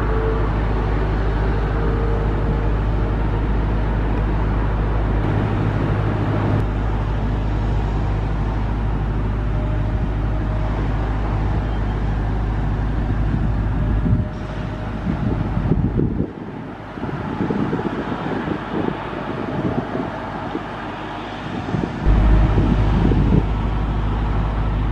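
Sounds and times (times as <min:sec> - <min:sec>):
jet airliner engine rumble: 0:00.0 - 0:24.9.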